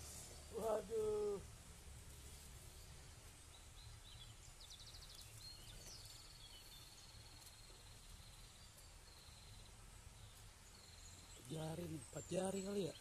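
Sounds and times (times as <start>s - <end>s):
bird chirps: 2.2s - 13.0s.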